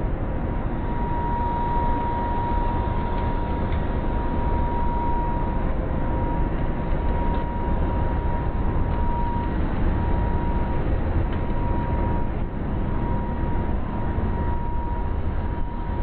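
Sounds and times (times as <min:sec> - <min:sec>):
machine low rumble: 0:00.0 - 0:16.0
thin high whine: 0:00.0 - 0:16.0.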